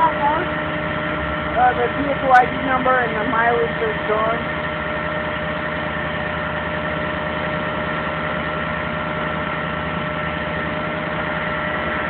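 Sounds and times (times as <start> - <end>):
high-pitched whine: 0.0 - 12.0
truck engine running: 0.0 - 12.0.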